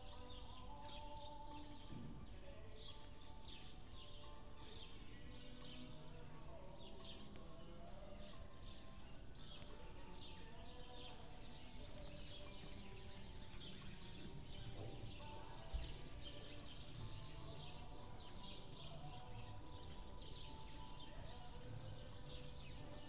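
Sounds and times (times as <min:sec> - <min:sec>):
small birds chirping rapidly: 0:00.0 - 0:23.0.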